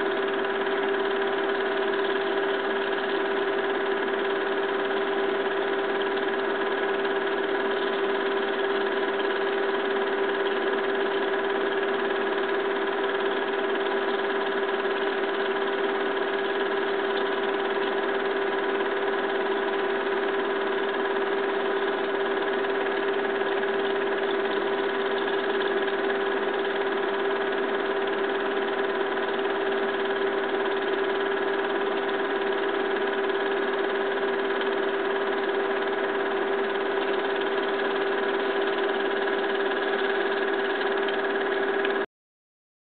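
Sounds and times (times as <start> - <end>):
film projector humming and whirring: 0.0 - 42.1.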